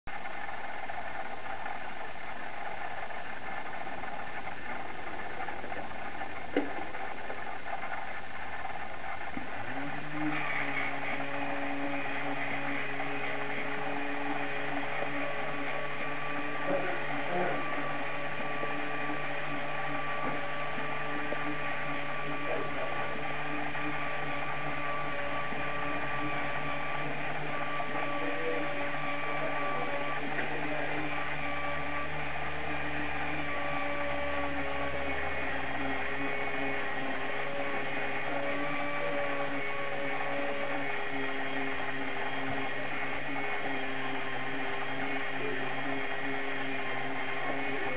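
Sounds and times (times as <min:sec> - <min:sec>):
electric motor whining hum: 0:00.1 - 0:47.9.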